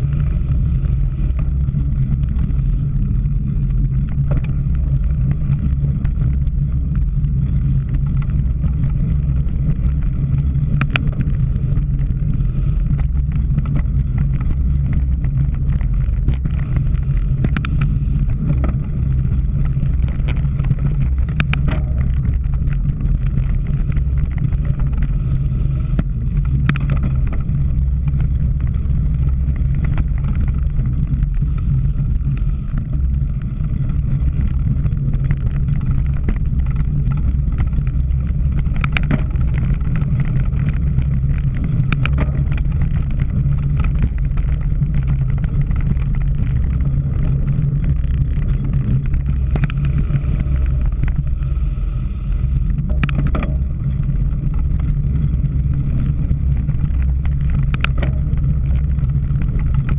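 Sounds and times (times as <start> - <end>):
bike rattles and clicks: 0.0 - 59.9
bike rumbling over rough ground: 0.0 - 59.9
wind buffeting microphone: 0.0 - 59.9.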